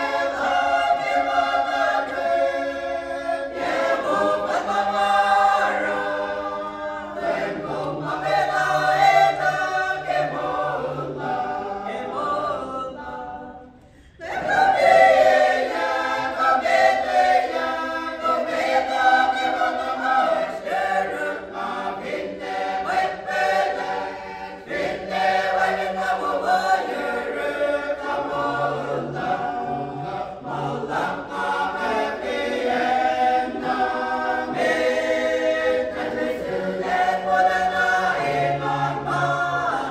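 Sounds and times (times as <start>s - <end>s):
choir singing a hymn a cappella: 0.0s - 39.9s.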